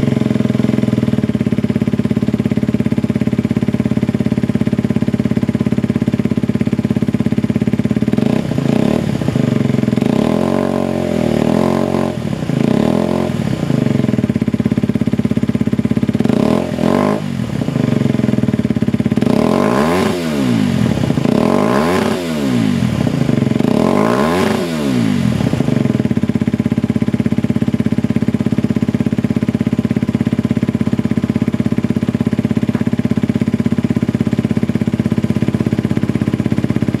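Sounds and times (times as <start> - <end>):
motorcycle engine revving and idling: 0.0 - 37.0.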